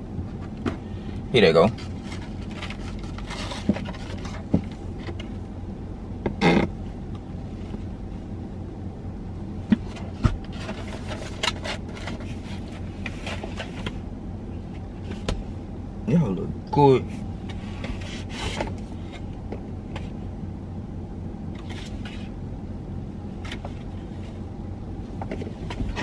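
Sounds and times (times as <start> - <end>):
low hum of car cabin: 0.0 - 26.0.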